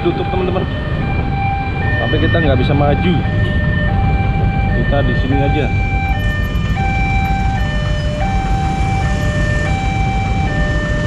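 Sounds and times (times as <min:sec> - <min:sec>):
two-tone crossing alarm: 0:00.0 - 0:11.0.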